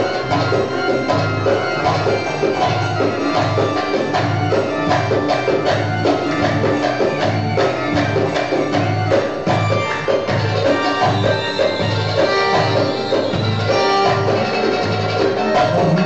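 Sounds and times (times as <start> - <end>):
live folk band music: 0.0 - 16.0.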